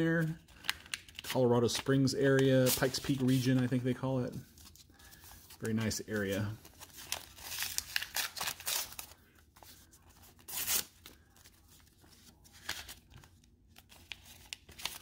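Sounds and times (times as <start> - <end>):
paper rustling: 1.8 - 15.0.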